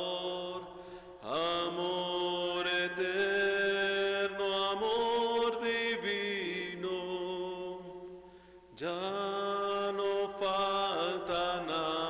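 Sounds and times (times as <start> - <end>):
worship song with held sung notes: 0.0 - 12.0.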